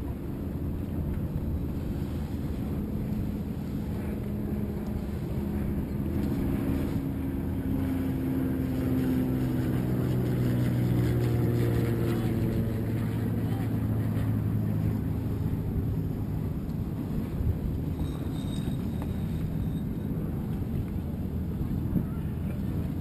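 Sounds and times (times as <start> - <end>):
motorboat engine: 0.0 - 23.0
water noise: 0.0 - 23.0
wind: 0.0 - 23.0.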